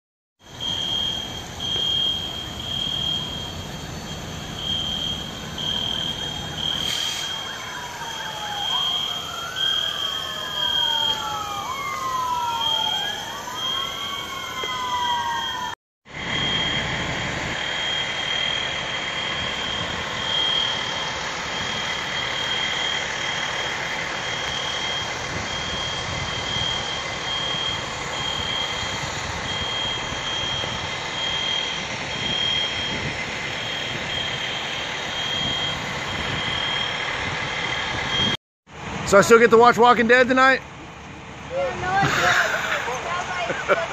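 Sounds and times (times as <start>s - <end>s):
engine rumble: 0.4s - 15.4s, 16.1s - 43.9s
emergency sirens wailing: 0.4s - 43.9s
fire alarm beeping: 0.5s - 38.4s.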